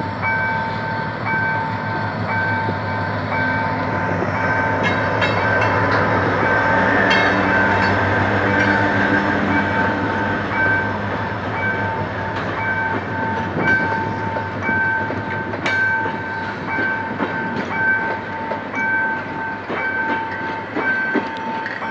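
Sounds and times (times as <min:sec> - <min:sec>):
train wheels rumbling on rail: 0:00.0 - 0:21.9
wheels clacking over rail joints: 0:02.3 - 0:21.9.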